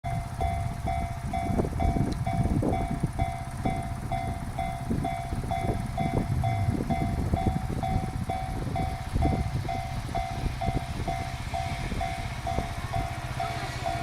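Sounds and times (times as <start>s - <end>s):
freight train passing: 0.0s - 14.0s
level crossing warning bell: 0.0s - 14.0s.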